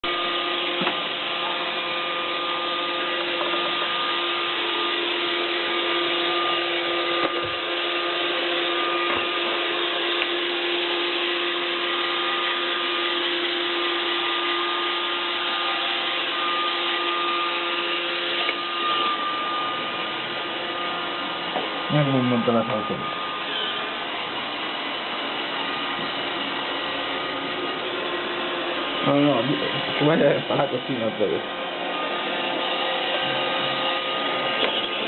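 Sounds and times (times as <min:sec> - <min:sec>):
whining tones: 0:00.0 - 0:35.0
robot vacuum whirring: 0:00.1 - 0:35.0.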